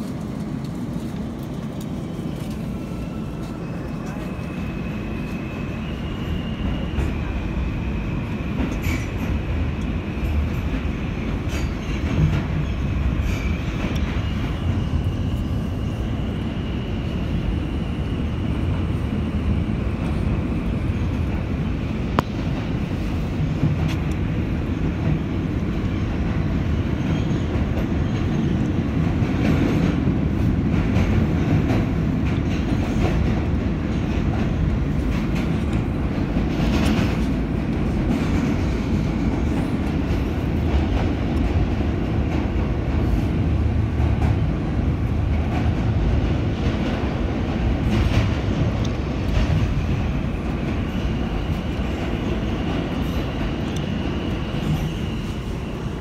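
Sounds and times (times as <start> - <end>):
subway car wheels rumbling: 0.0 - 56.0.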